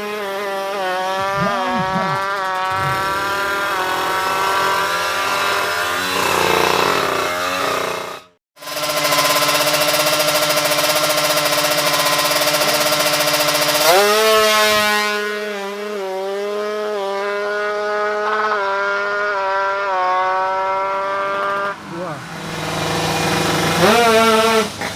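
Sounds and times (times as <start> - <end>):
two-stroke motorcycle engine revving: 0.0 - 24.9.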